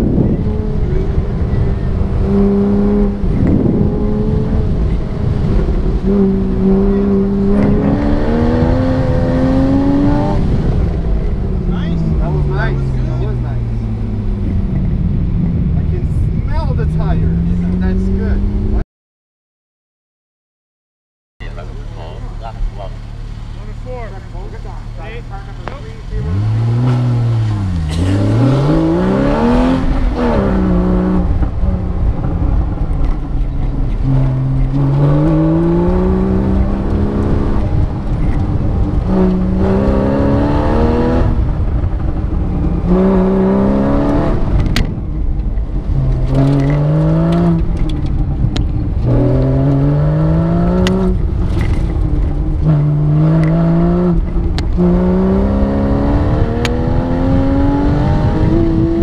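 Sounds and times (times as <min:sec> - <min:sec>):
car engine accelerating: 0:00.0 - 0:18.8, 0:21.4 - 0:59.0.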